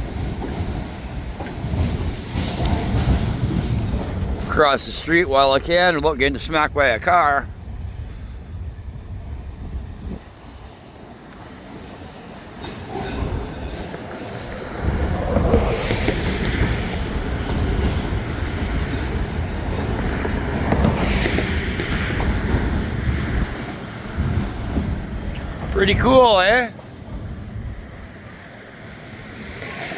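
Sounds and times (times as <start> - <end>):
freight train wheels on rails: 0.0 - 29.9
rumble and clatter of train cars: 0.0 - 29.9.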